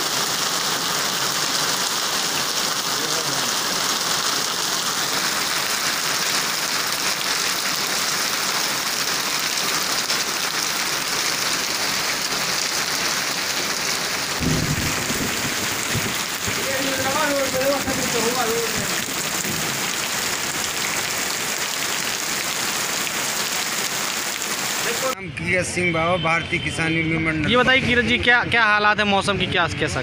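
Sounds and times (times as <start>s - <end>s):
heavy rain and hail pelting: 0.0s - 25.2s.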